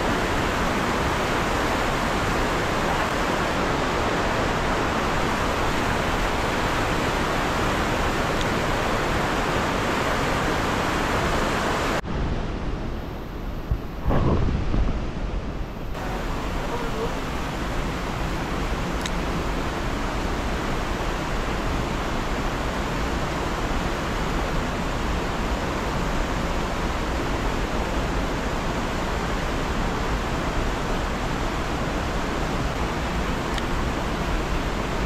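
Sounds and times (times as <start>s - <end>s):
river rapids rushing over boulders: 0.0s - 12.0s, 16.0s - 35.0s.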